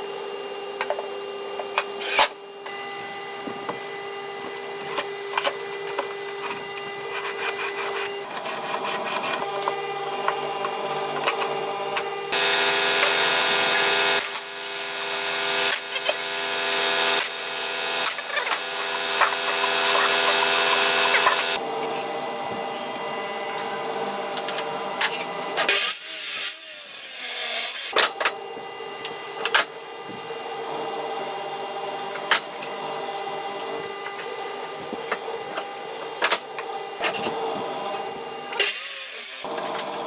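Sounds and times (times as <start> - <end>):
band saw cutting wood: 1.7 - 40.0.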